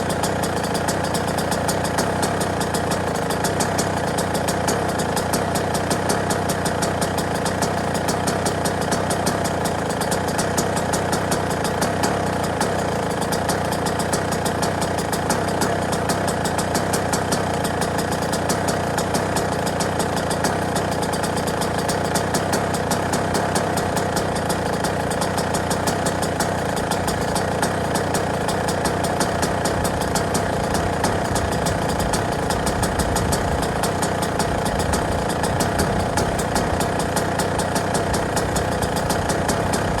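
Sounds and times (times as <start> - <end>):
dirt bike engine idling: 0.0 - 40.0.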